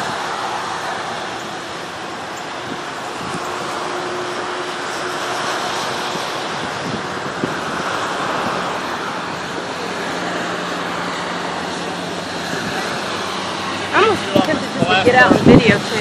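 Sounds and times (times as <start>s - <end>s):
tyres hissing on wet road: 0.0s - 16.0s.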